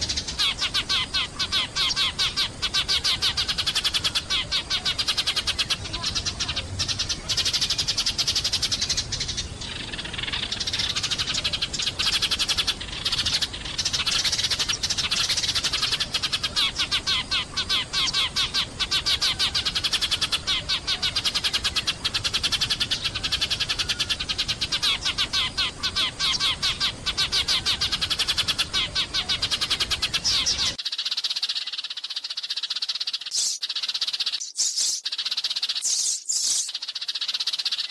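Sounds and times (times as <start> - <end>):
sparrows chirping: 0.0 - 37.9.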